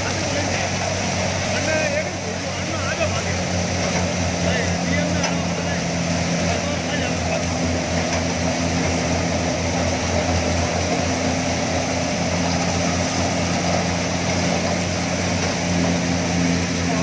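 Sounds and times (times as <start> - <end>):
threshing drum and blower hiss: 0.0 - 17.0
tractor diesel engine droning: 0.0 - 17.0.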